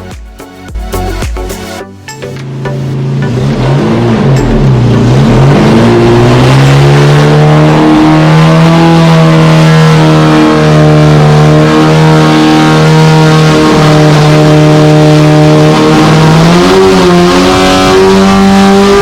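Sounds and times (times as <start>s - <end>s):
race engine revving: 2.4s - 19.0s.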